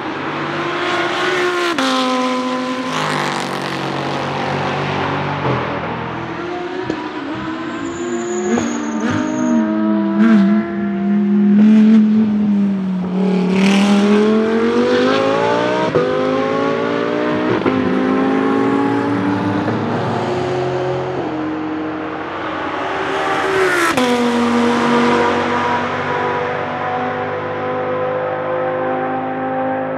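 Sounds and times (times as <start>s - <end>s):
race car engine revving: 0.0s - 29.9s.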